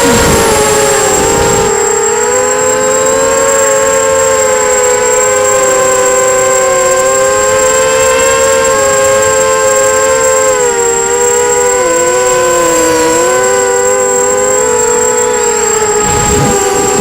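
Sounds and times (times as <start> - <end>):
drone motors whining: 0.0 - 17.0
thin high whistle: 0.0 - 17.0.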